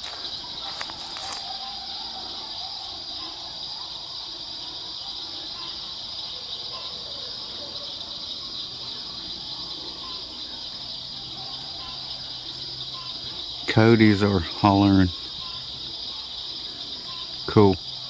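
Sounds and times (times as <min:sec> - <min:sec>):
distant coyotes howling and yipping: 0:00.0 - 0:18.0
night insects chorus: 0:00.0 - 0:18.0.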